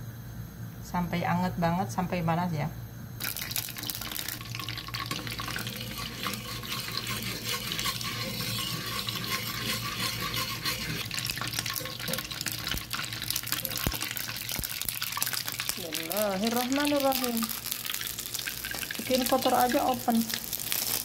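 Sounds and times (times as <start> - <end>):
butter sizzling in a saucepan: 3.2 - 21.0
metal spoon stirring: 3.2 - 21.0.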